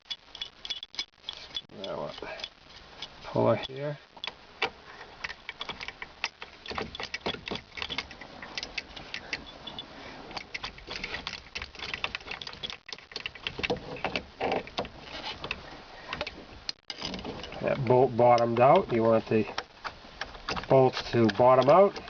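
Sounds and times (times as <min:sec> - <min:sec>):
metallic clicks and rattles: 0:00.0 - 0:22.0.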